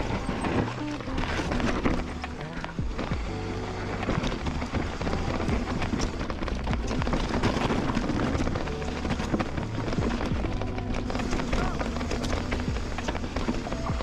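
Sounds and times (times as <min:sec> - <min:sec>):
bike rattling over bumps: 0:00.0 - 0:14.0
bike tyres on dirt and gravel: 0:00.0 - 0:14.0.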